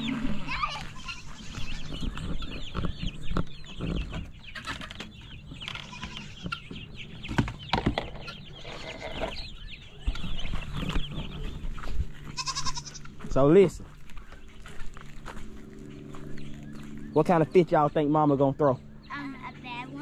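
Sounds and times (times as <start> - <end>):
baby chicks peeping: 0.0 - 20.0.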